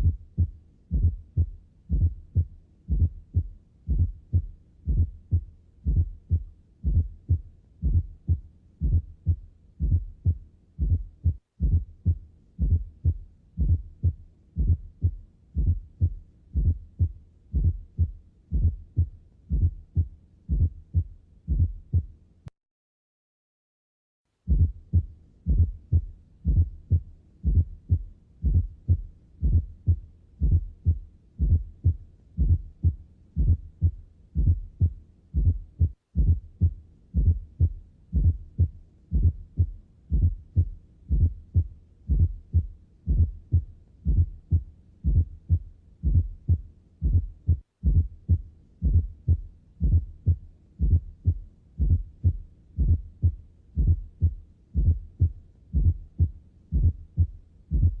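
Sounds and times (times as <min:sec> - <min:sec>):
heartbeat thuds: 0:00.0 - 0:22.1, 0:24.5 - 0:58.0.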